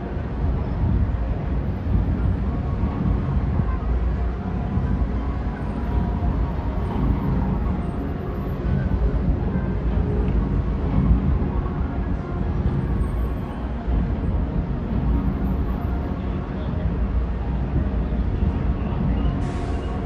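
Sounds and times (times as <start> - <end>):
murmur of voices: 0.0 - 20.0
outdoor crowd rumble: 0.0 - 20.0.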